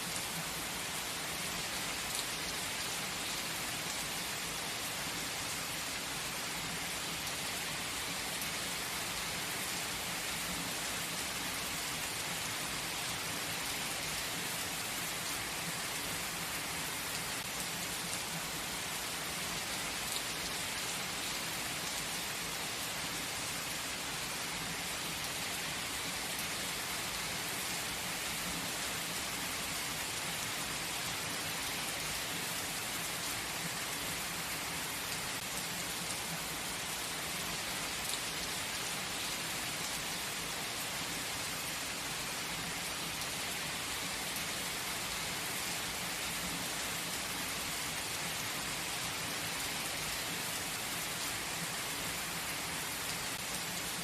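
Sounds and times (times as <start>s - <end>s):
gentle rain hiss: 0.0s - 54.0s.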